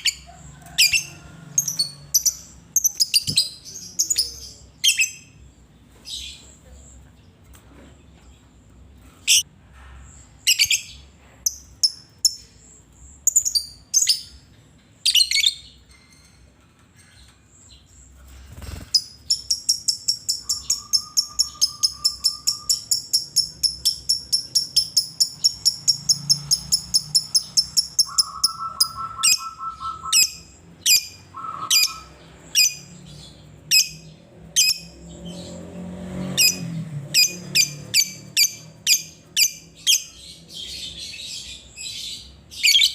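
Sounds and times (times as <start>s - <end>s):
bird chirping: 0.0s - 7.4s, 10.1s - 16.4s, 17.0s - 42.9s.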